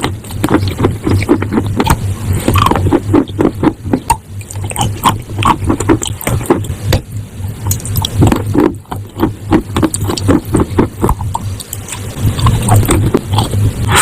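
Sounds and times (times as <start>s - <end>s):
crunching and chewing chalk: 0.0s - 6.8s, 7.6s - 14.0s
low steady hum: 0.0s - 14.0s.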